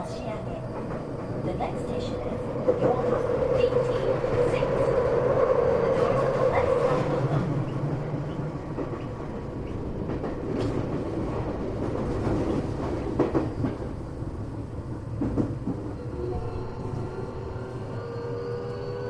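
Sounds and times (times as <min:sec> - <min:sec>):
train wheels rumbling on rail: 0:00.0 - 0:19.0
train whine: 0:00.0 - 0:19.0.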